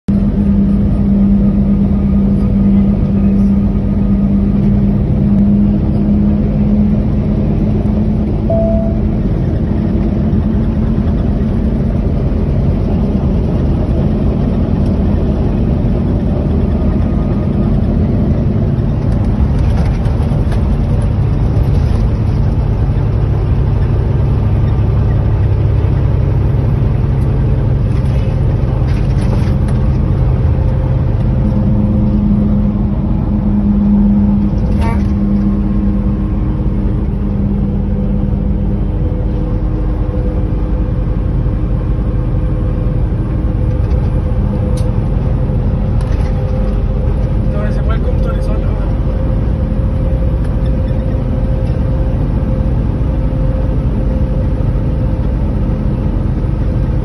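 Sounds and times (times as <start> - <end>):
truck engine drone inside cab: 0.0 - 57.0.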